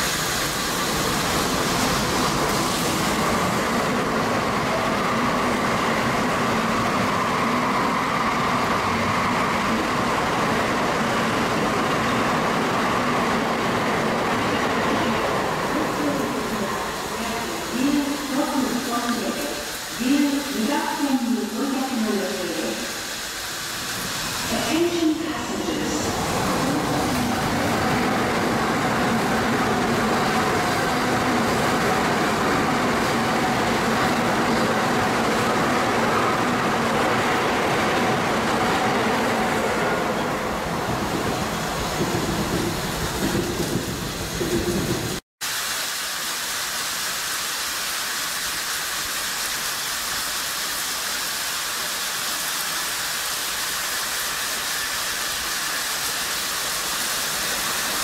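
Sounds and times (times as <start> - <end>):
train wheels rumbling on rail: 0.0 - 45.2, 47.5 - 58.0.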